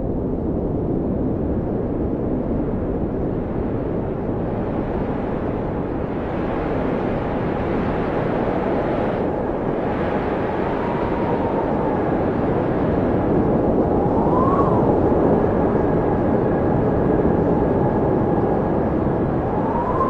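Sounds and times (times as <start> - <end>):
blizzard wind rushing: 0.0 - 20.0
faint whistling wind howl: 0.0 - 20.0.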